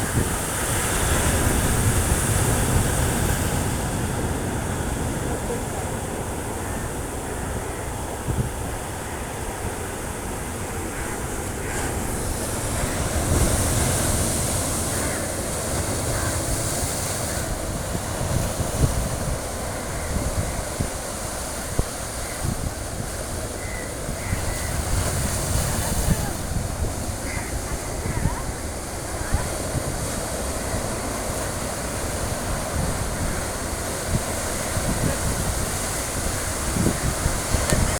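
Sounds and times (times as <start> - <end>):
waves washing onto rocky beach: 0.0 - 37.9
wind rumbling on microphone: 0.0 - 37.9.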